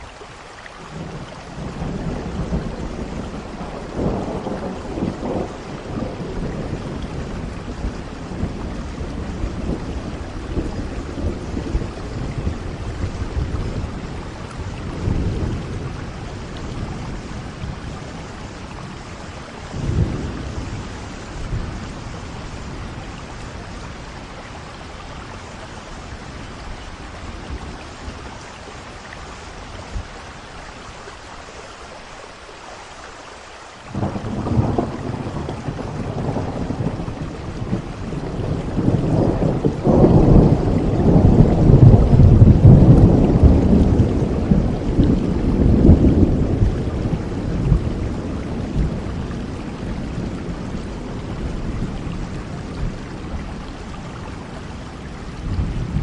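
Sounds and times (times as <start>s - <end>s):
steady rain: 0.0s - 56.0s
rolling thunder: 0.9s - 30.2s, 33.9s - 56.0s.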